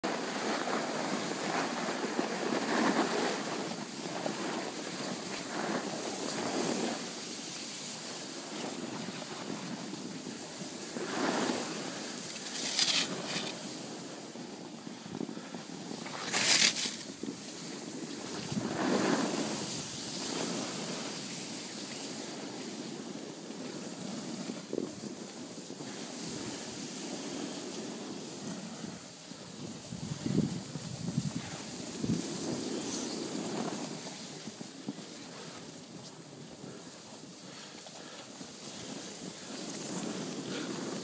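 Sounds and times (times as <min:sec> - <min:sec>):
snowboard scraping over snow: 0:00.0 - 0:41.0
wind on microphone: 0:00.1 - 0:41.0.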